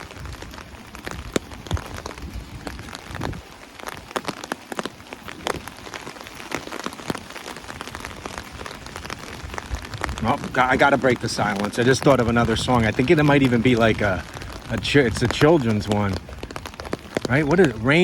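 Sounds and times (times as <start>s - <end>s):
raindrops tapping close by: 0.0s - 18.0s
steady rain hiss: 0.0s - 18.0s.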